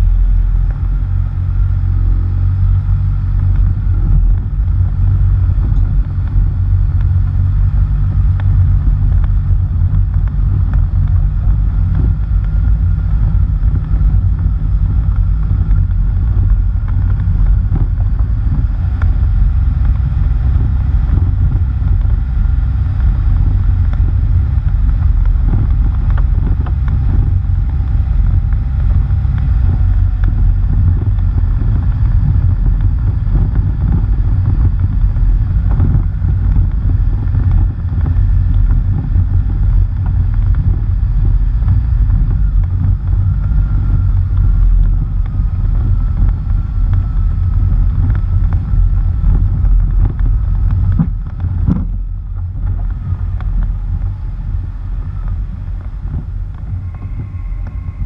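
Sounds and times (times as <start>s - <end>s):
tyre noise on dirt road: 0.0s - 58.0s
wind buffeting camera: 0.0s - 58.0s.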